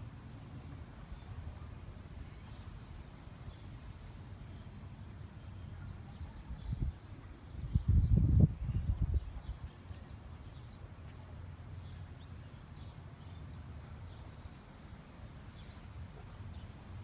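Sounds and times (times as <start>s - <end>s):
small birds chirping faintly: 0.0s - 17.0s.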